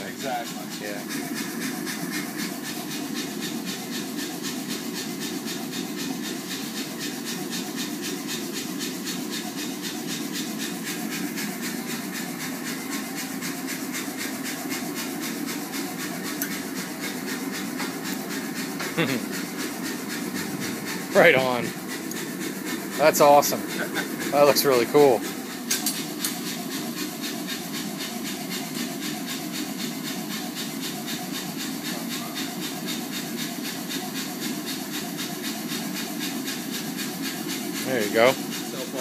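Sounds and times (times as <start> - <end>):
machinery rushing hiss with pulse: 0.0 - 39.0.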